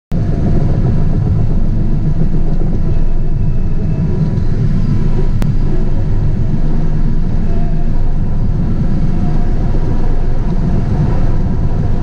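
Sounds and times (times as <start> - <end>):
diesel engine low rumble: 0.1 - 12.0.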